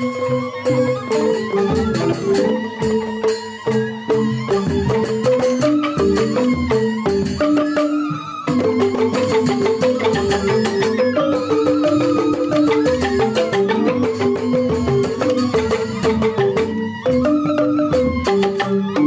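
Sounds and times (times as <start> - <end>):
bamboo flutes wavering melody: 0.0 - 19.0
bamboo xylophones struck rapidly: 0.0 - 19.0.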